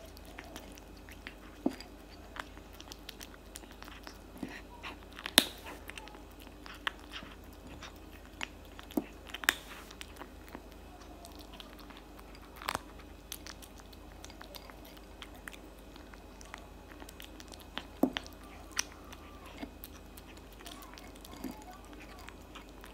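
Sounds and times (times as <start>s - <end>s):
kitten chewing food: 0.0s - 22.9s.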